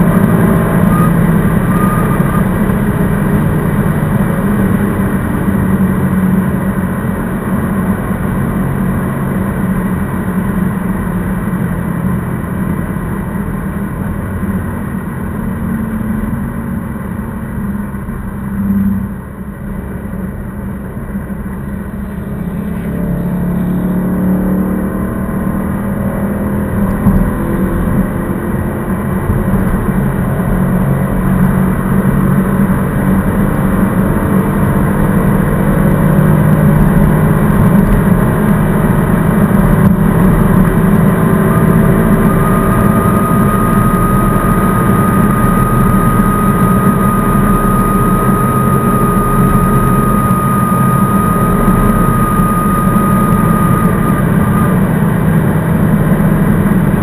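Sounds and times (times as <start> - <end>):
car engine from inside cabin: 0.0 - 57.0
road noise: 0.0 - 57.0.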